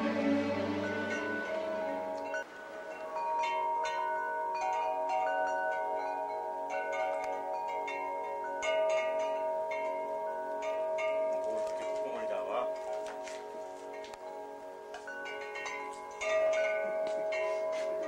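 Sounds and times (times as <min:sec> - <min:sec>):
metal wind chimes ringing: 0:00.0 - 0:18.0.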